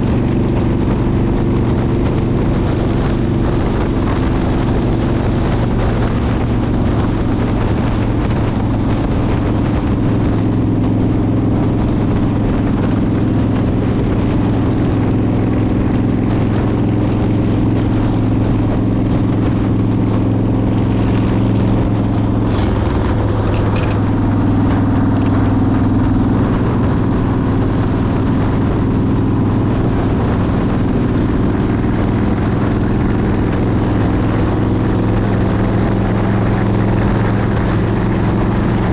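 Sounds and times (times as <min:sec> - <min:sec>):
motorcycle engine cruising: 0:00.0 - 0:38.9
wind buffeting microphone: 0:00.0 - 0:38.9.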